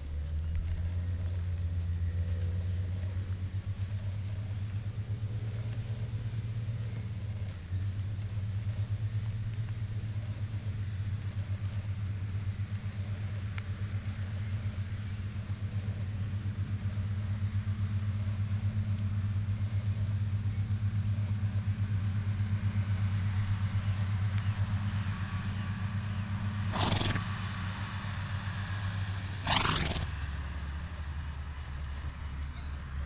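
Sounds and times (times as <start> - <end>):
low pulsing engine hum: 0.0 - 33.0.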